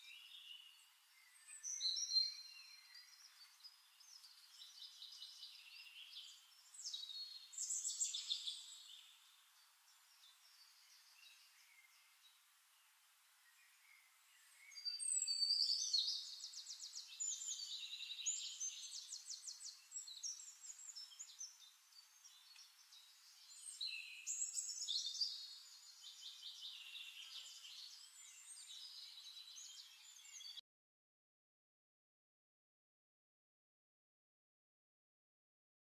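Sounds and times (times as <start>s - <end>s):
songbirds singing trills and chirps: 0.0s - 30.6s.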